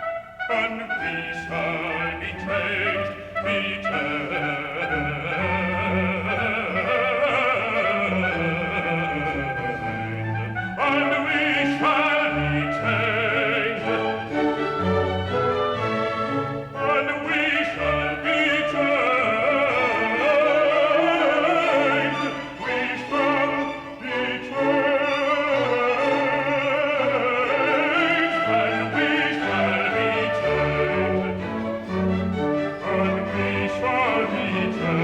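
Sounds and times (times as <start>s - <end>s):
operatic singing: 0.0s - 35.0s
orchestral accompaniment: 0.0s - 35.0s.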